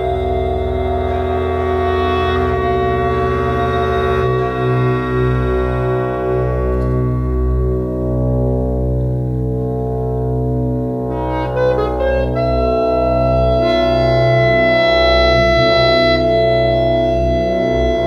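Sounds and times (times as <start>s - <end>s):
clarinets sustaining long tones: 0.0s - 18.0s
steady low drone: 0.0s - 18.0s.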